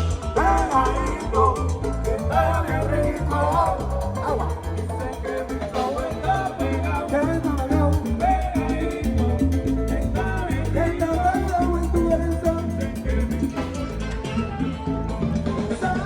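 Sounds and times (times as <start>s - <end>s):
salsa music with singing: 0.0s - 16.0s.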